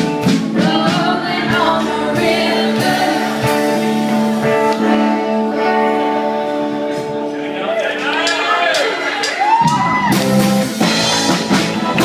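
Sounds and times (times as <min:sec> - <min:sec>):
electric guitar: 0:00.0 - 0:12.0.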